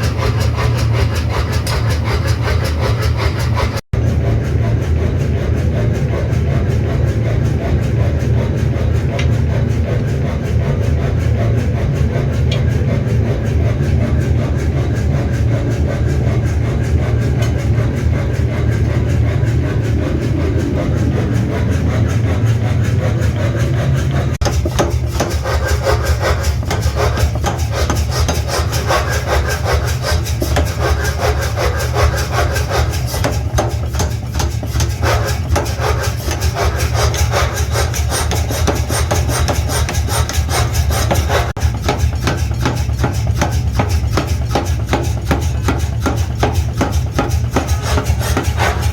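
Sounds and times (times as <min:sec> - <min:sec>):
rasping strokes on metal: 0:00.0 - 0:03.9, 0:06.0 - 0:48.9
workshop machinery humming: 0:00.0 - 0:48.9.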